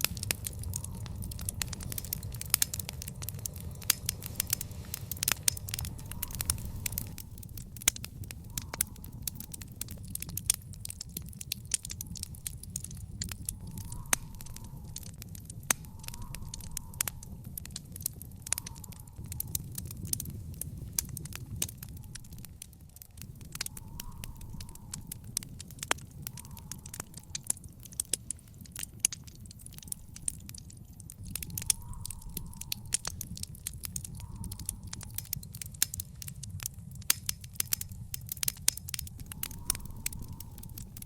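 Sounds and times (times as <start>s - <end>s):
sharp pops of fire: 0.0s - 41.0s
steady low rumble: 0.0s - 41.0s
wood fire crackling: 0.0s - 41.0s.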